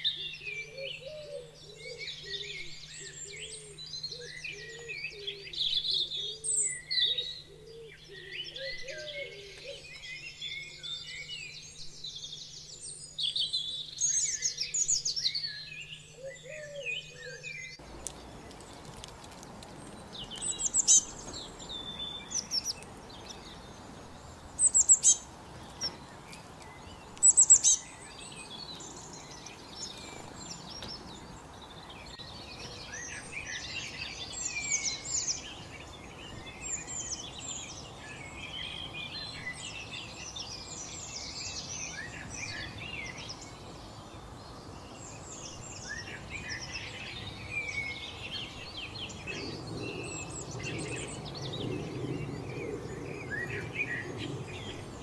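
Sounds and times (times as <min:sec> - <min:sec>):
birds singing and calling: 0:00.0 - 0:55.0.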